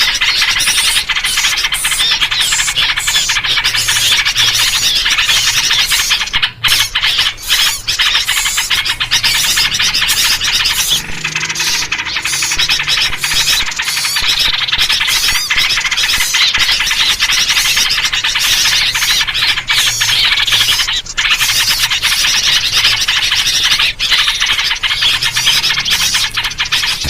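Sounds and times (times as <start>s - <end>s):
bulbul calls: 0.0s - 27.0s
small birds chattering: 0.0s - 27.0s.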